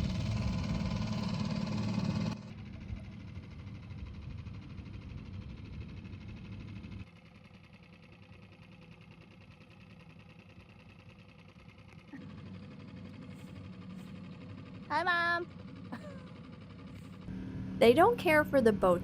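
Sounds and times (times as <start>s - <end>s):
outboard motor buzzing: 0.0s - 19.0s.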